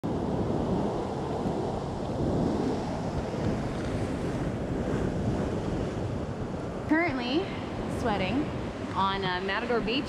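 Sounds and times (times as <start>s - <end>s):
ocean surf on a beach: 0.0s - 10.0s
wind buffeting microphone: 0.0s - 10.0s.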